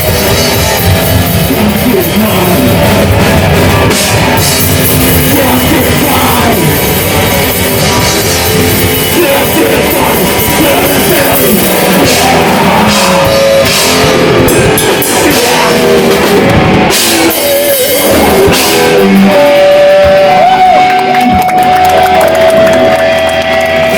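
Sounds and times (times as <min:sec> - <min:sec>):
metal band playing live: 0:00.0 - 0:23.9.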